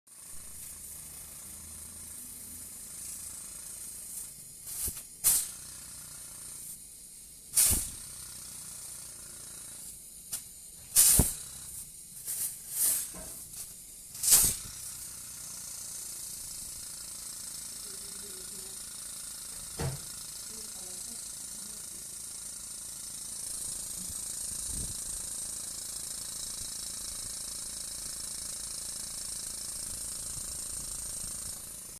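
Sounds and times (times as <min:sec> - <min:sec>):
gas hissing from open pipe: 0:00.2 - 0:31.9.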